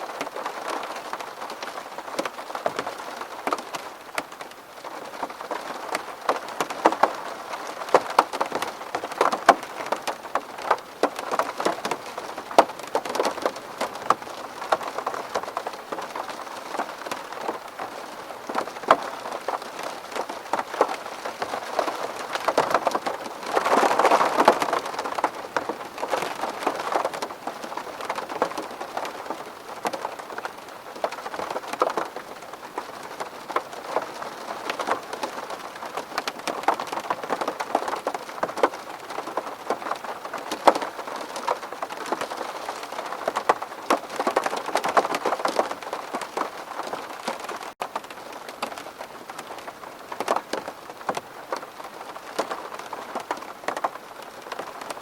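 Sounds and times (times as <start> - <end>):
rain pattering on window glass: 0.0 - 55.0.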